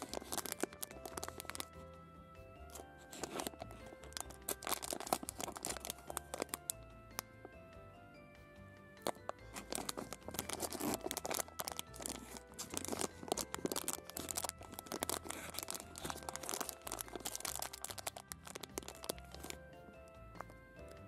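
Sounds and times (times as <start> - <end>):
plastic wrapper crinkling: 0.0 - 1.8, 2.7 - 7.3, 9.0 - 19.6
soft background music: 0.0 - 21.0.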